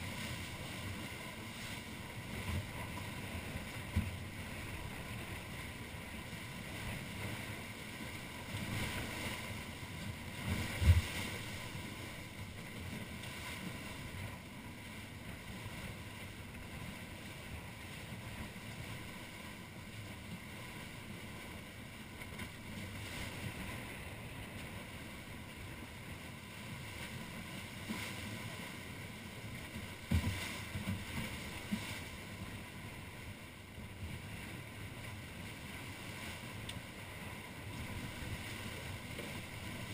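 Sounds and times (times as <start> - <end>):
wind and water rushing: 0.0 - 39.9.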